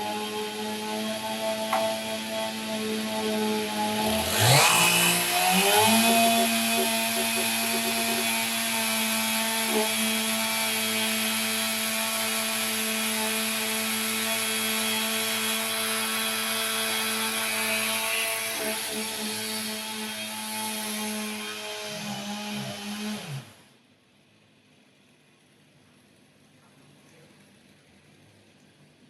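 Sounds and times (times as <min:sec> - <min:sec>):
chainsaw cutting log: 0:00.0 - 0:23.6.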